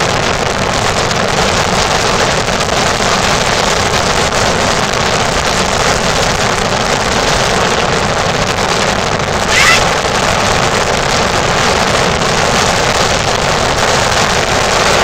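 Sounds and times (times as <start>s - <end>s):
motorboat engine running: 0.0s - 15.0s
wind: 0.0s - 15.0s.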